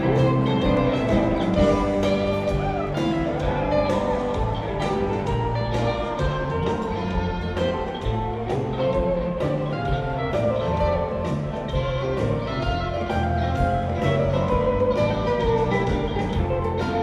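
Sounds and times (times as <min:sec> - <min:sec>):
bass guitar: 0:00.0 - 0:17.0
drum kit with cymbals: 0:00.0 - 0:17.0
electric guitars: 0:00.0 - 0:17.0
keyboards: 0:00.0 - 0:17.0.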